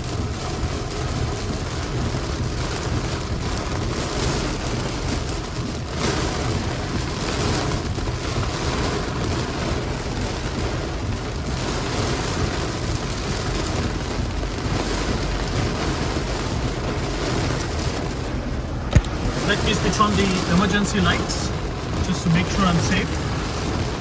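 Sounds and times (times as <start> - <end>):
heavy rain on a car: 0.0 - 24.0
low road rumble: 0.0 - 24.0.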